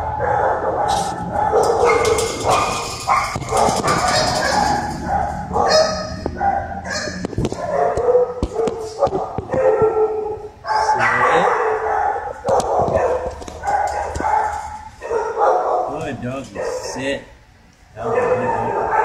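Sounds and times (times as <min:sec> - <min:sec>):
dogs barking and whining: 0:00.0 - 0:17.2, 0:17.9 - 0:19.0.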